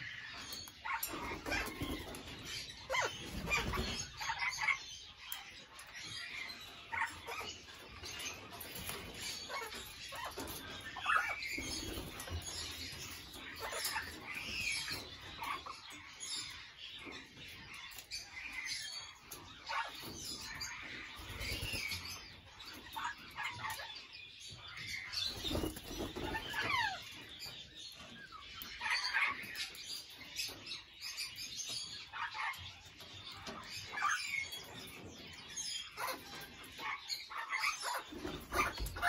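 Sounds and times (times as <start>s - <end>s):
parrot chirps and calls: 0.0s - 39.0s.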